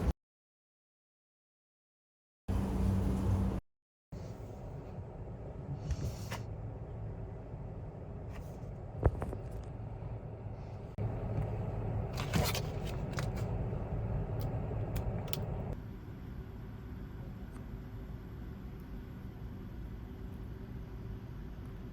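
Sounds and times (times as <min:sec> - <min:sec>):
low rumble of vehicle noise: 0:04.2 - 0:21.9.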